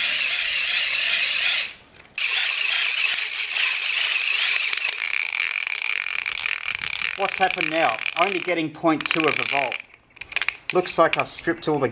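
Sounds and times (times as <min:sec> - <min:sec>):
plastic gears rattling whir: 0:00.0 - 0:11.4.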